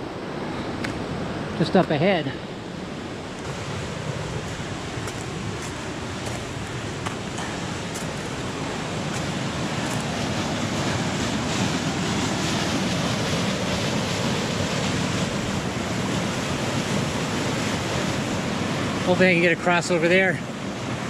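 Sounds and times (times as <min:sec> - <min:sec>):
creek water rushing over rocks: 0:00.0 - 0:21.0.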